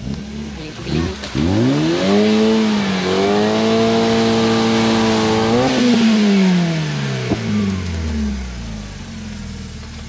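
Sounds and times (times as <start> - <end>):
engine revs falling to idle: 0.0 - 10.0.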